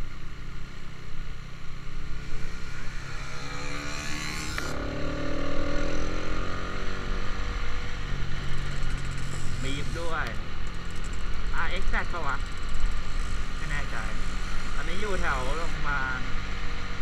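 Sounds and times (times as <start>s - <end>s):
motorcycle engine accelerating: 1.7s - 17.0s.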